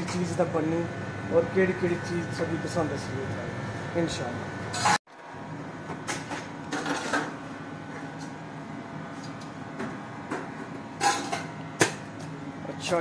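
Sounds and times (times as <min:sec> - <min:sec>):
low hum of kitchen equipment: 0:00.0 - 0:13.0.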